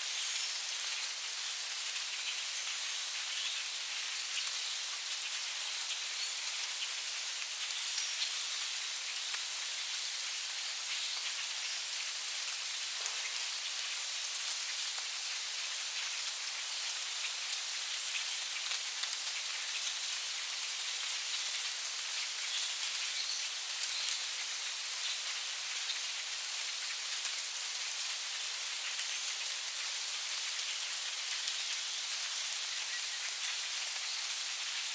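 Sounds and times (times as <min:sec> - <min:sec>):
rain drops ticking: 0:00.0 - 0:34.9
rain falling on leaves: 0:00.0 - 0:34.9.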